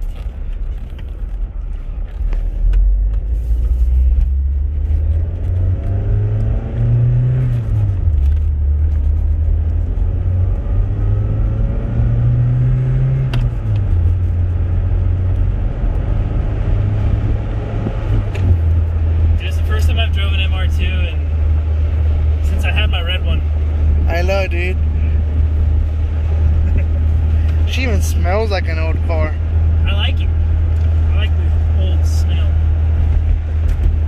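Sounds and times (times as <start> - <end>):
car engine accelerating: 0.0 - 34.0
low road rumble: 0.0 - 34.0.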